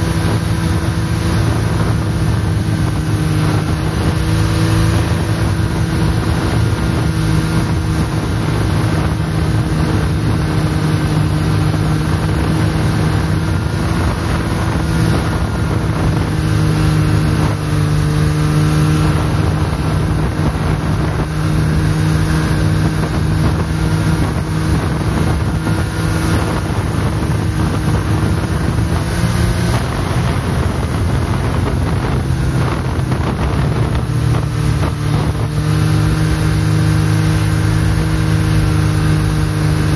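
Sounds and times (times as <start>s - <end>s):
snowmobile engine running: 0.0s - 39.9s
wind noise on microphone: 0.0s - 39.9s.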